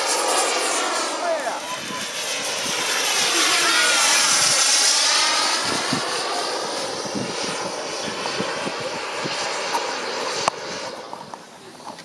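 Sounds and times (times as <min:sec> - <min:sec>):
model jet turbine roaring: 0:00.0 - 0:12.0.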